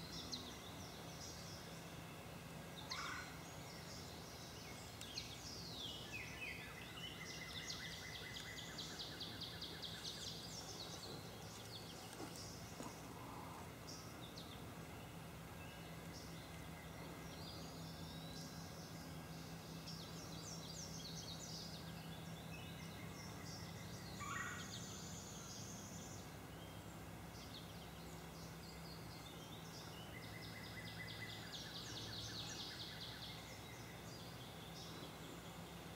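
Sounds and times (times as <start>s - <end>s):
birds singing: 0.0s - 35.9s
low steady hum: 0.0s - 35.9s.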